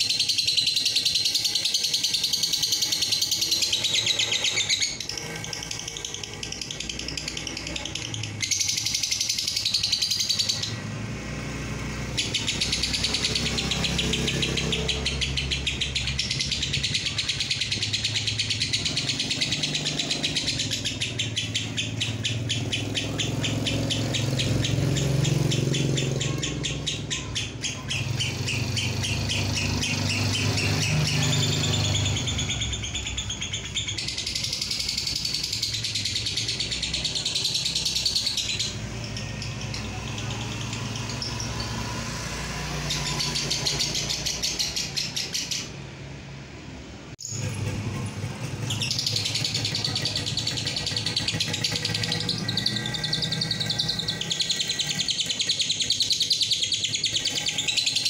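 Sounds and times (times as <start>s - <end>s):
bird chattering trill: 0.0s - 10.9s, 11.8s - 45.8s, 47.2s - 58.0s.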